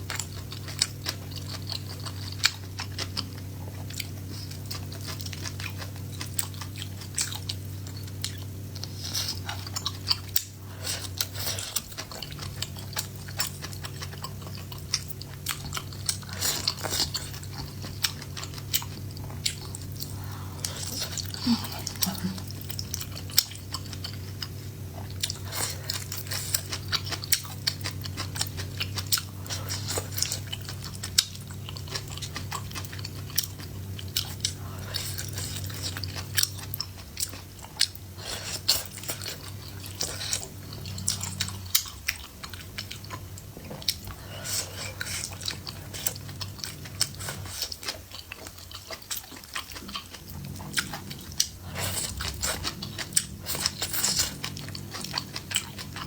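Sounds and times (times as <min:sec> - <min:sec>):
chewing and biting food: 0:00.0 - 0:56.0.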